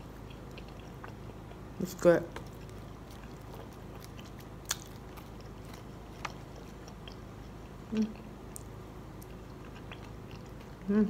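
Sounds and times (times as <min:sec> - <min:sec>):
person chewing food: 0:00.0 - 0:10.9
background hum: 0:00.0 - 0:11.0.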